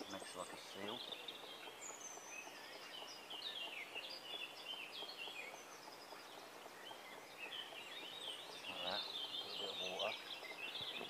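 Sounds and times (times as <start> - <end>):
songbirds singing faintly: 0.0 - 11.0.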